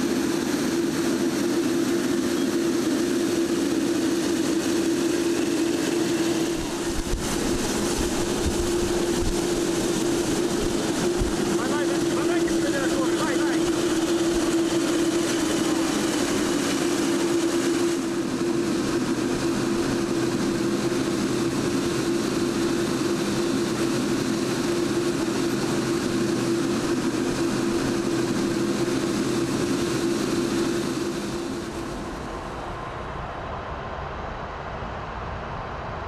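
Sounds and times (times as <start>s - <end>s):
jet engine whine: 0.0s - 36.0s.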